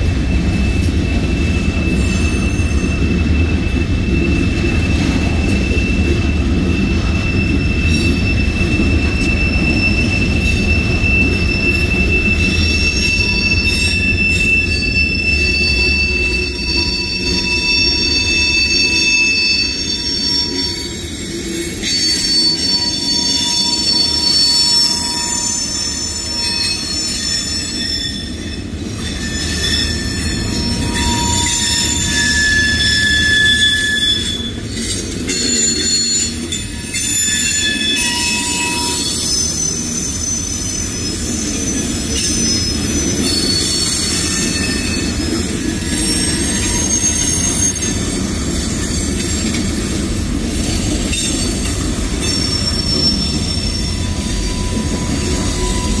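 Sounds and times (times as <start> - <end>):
freight train rumbling past: 0.0 - 56.0
train wheel squeals: 0.0 - 56.0.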